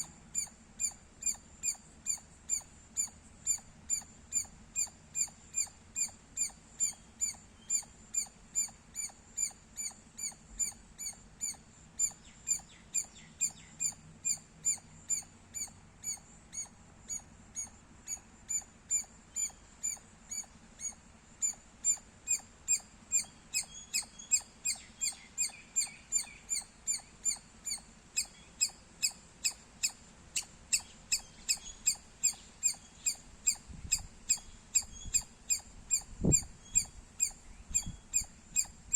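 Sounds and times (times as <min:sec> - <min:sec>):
squirrel chirping: 0:00.0 - 0:38.8.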